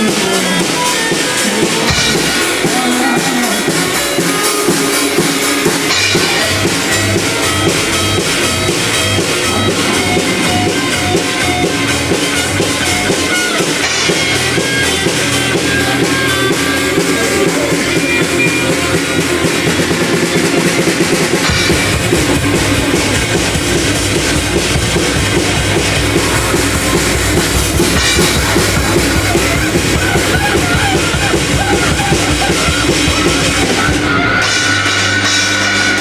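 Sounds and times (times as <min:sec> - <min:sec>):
heavy metal music: 0:00.0 - 0:36.0.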